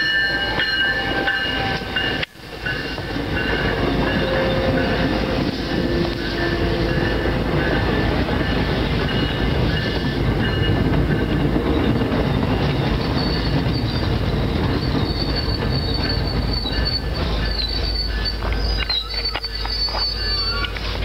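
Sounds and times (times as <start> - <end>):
high wheel squeal: 0.0 - 21.0
train wheels rumbling on rails: 0.0 - 21.0.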